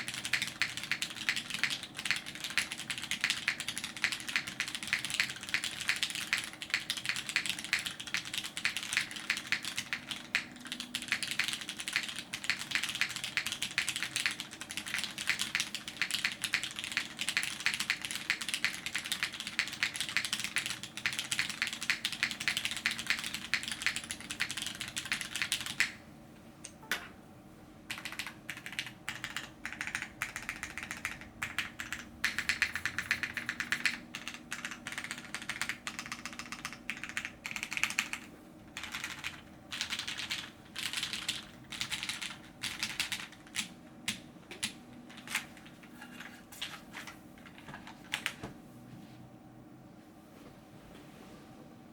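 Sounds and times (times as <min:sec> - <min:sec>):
mechanical keyboard typing: 0:00.0 - 0:26.0, 0:27.9 - 0:46.3, 0:47.4 - 0:48.4.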